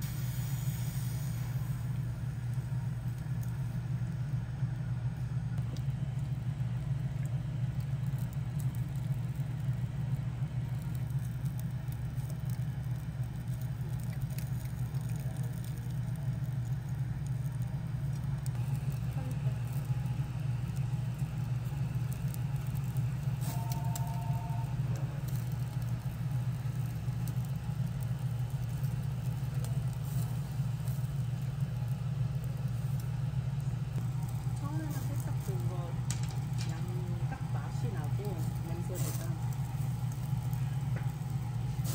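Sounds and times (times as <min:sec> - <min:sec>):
grill machine hum: 0:00.0 - 0:41.9.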